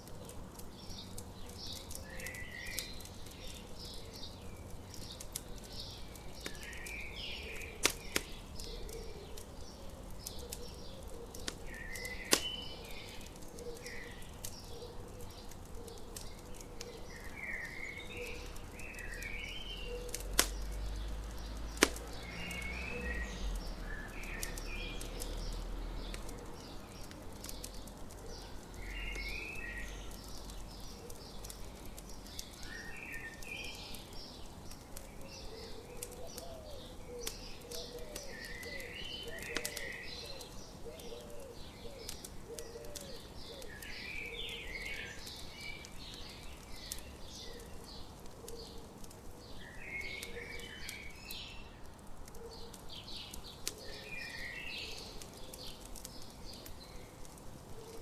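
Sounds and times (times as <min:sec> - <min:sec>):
campfire crackling and popping: 0:00.0 - 0:58.0
songbird chirping: 0:00.0 - 0:58.0.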